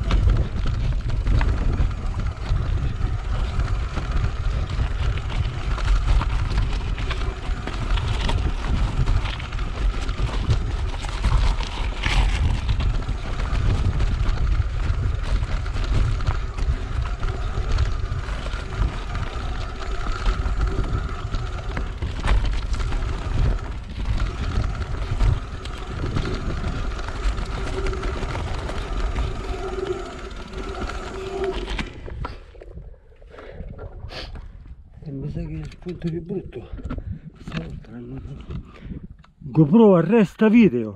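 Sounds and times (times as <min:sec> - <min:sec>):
bike tyres crunching gravel: 0:00.0 - 0:33.6
bike rattling over rocks: 0:00.0 - 0:33.7
wind buffeting microphone: 0:00.0 - 0:39.6.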